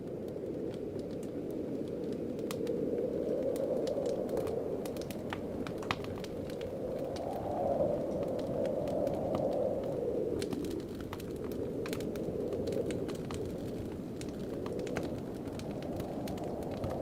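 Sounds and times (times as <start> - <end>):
howling wind: 0.0 - 17.0
wood fire crackling and popping: 0.0 - 17.0.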